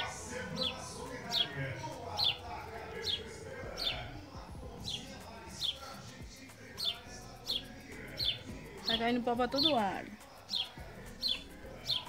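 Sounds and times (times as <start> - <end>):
faint music: 0.0 - 12.0
small bird chirping: 0.0 - 12.0.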